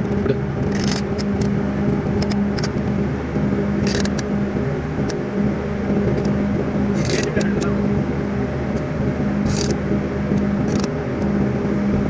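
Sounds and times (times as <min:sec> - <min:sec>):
engine running drone: 0:00.0 - 0:12.0.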